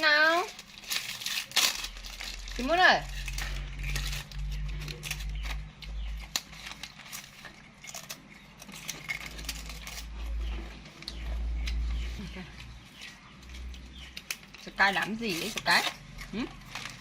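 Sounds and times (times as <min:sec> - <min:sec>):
monkey chewing crunchy rice cake: 0:01.2 - 0:17.0.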